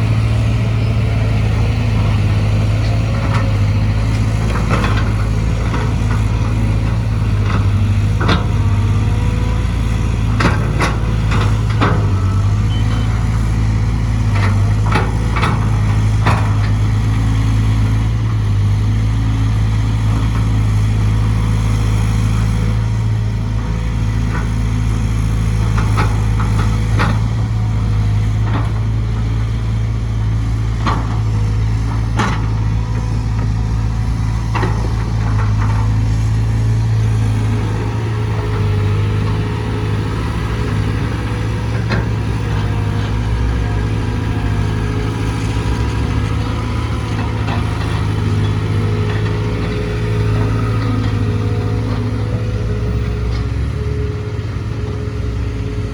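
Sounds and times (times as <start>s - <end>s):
diesel excavator engine running: 0.0s - 55.9s.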